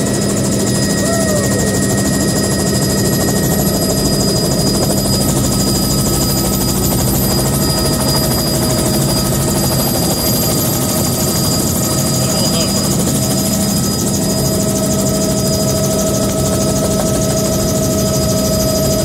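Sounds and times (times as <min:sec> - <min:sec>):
helicopter rotor and engine drone: 0:00.0 - 0:19.0.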